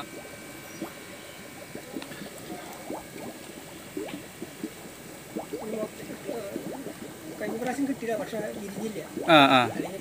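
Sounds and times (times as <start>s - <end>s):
aquarium bubbles gurgling: 0.0s - 10.0s.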